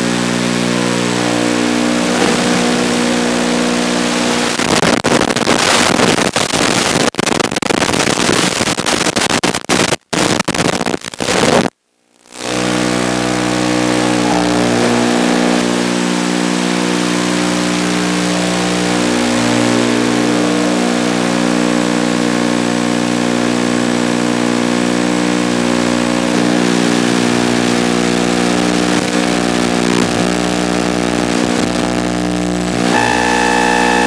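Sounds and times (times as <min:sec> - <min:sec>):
electronic buzz and hiss: 0:00.0 - 0:34.0.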